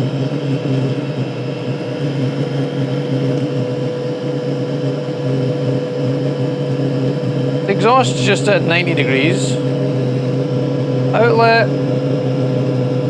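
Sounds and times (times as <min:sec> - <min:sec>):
air heater fan and burner humming: 0:00.0 - 0:13.0.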